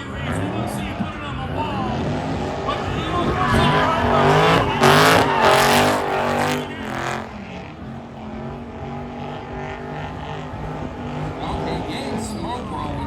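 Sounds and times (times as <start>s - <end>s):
car engine revving: 0.0s - 13.0s
tyres squealing: 0.0s - 13.0s.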